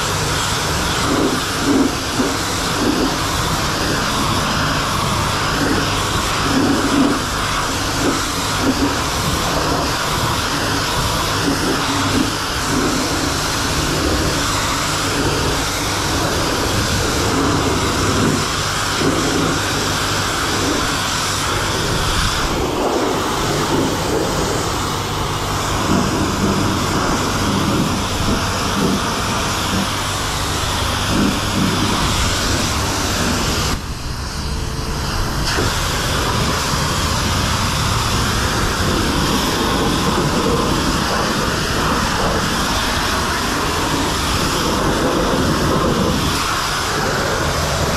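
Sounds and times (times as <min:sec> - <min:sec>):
low hum: 0:00.0 - 0:47.9
pressure washer spray hissing: 0:00.0 - 0:47.9.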